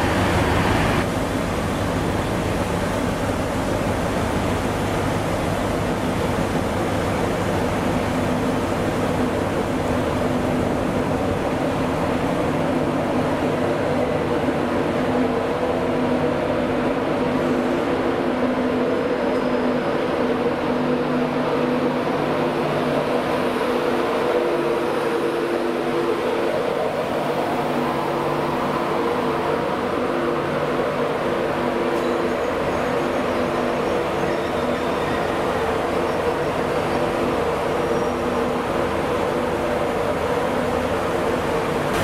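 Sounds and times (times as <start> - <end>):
diesel train engines idling: 0.0 - 42.0.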